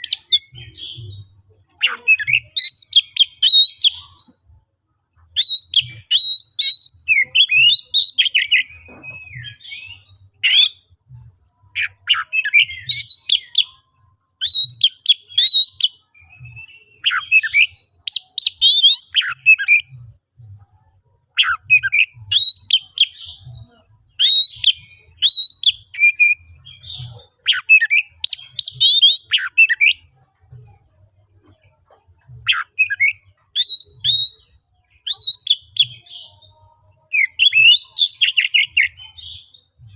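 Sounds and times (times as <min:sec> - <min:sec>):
bird singing whistles and trills: 0:00.0 - 0:04.4, 0:05.2 - 0:10.9, 0:11.7 - 0:19.9, 0:21.3 - 0:30.1, 0:32.4 - 0:39.9.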